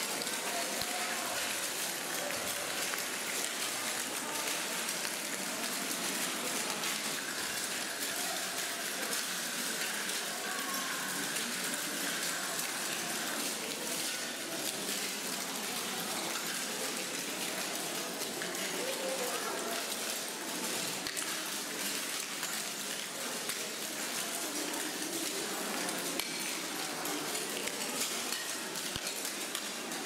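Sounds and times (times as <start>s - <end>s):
faint crowd voices: 0.0s - 30.0s.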